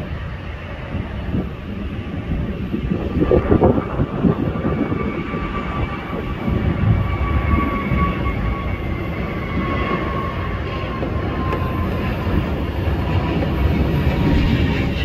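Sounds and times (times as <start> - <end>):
jet engine high whine: 0.0 - 15.0
jet engines rumbling: 0.0 - 15.0.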